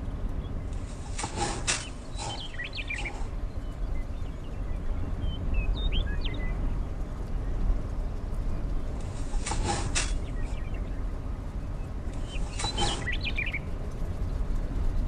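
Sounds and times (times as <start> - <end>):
low wind rumble: 0.0 - 15.0
small birds chirping: 0.0 - 15.0.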